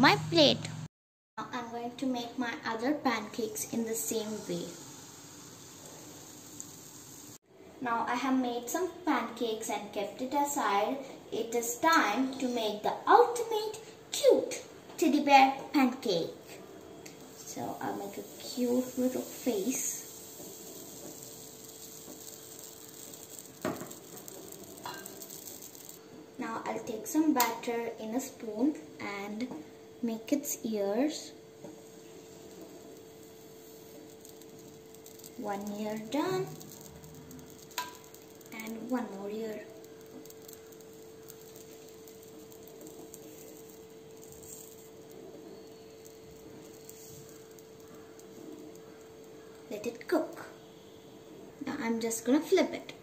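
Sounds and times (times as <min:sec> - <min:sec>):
batter sizzling in a frying pan: 0:02.0 - 0:07.5, 0:08.1 - 0:52.7.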